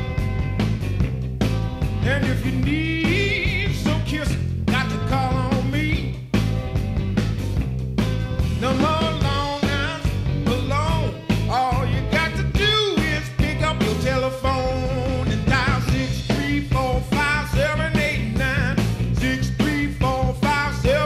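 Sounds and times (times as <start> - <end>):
blues-rock band playing: 0.0 - 21.0.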